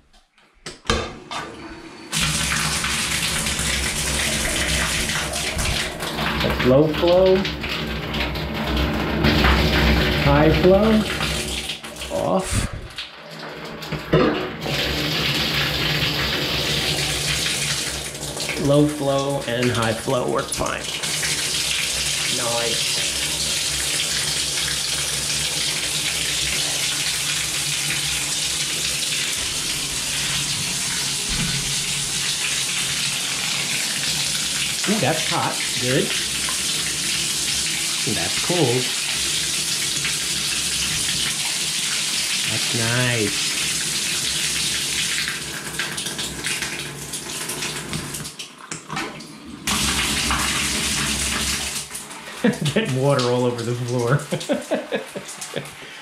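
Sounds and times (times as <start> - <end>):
water pouring onto shower floor: 2.1 - 56.0.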